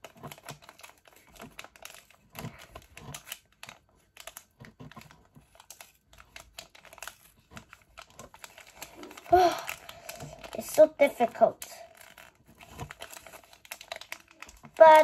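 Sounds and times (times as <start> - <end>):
plastic packet crinkling and tearing: 0.0 - 15.0.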